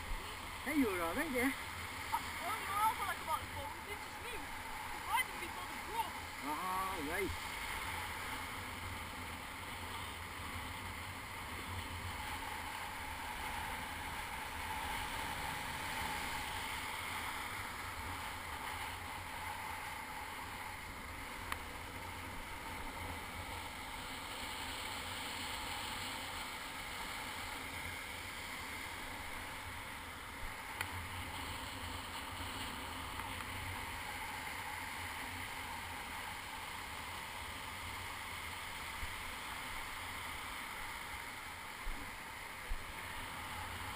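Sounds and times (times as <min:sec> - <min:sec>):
breaking surf and whitewater: 0:00.0 - 0:43.9.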